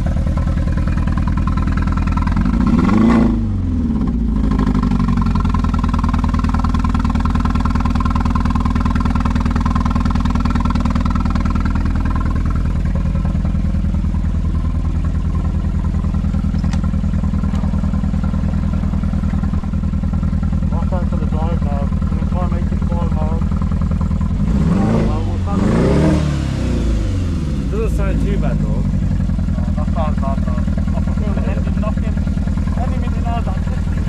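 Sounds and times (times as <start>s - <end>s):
car engine idling unevenly: 0.0s - 34.0s.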